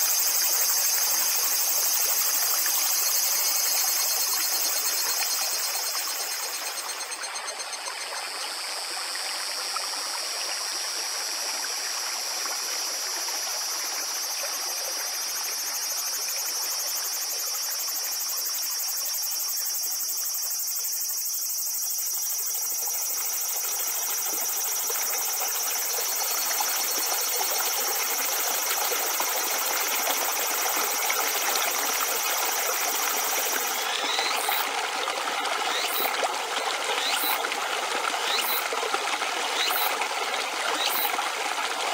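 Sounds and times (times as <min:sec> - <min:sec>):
river water rushing over stones: 0:00.0 - 0:16.4, 0:23.2 - 0:41.9.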